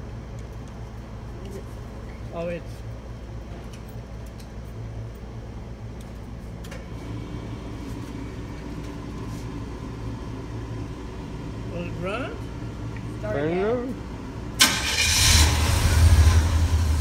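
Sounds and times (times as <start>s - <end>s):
high steady hum: 0.0s - 17.0s.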